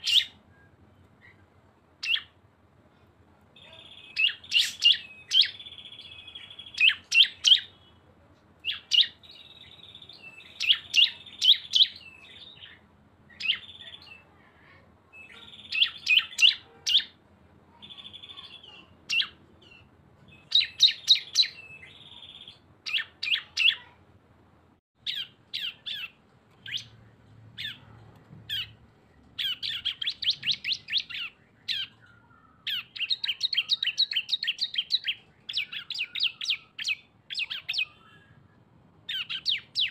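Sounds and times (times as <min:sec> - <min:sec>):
birds chirping and trilling: 0:00.0 - 0:02.4, 0:03.6 - 0:24.0, 0:25.0 - 0:39.9.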